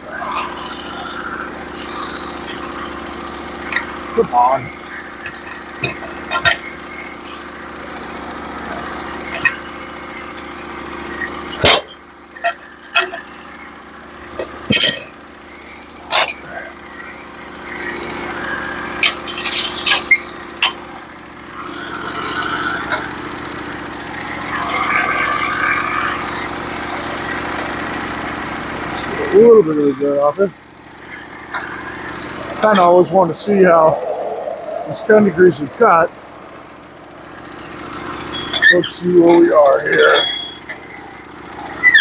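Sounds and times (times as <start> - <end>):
sawmill engine idling: 0.0 - 42.0.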